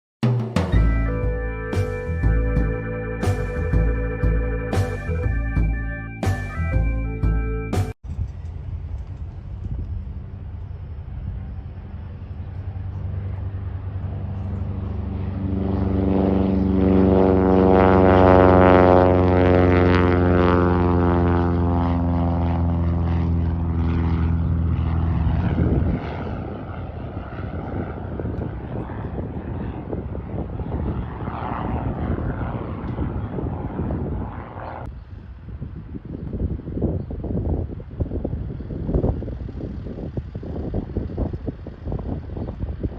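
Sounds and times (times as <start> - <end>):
propeller airplane engine drone: 0.2 - 42.9.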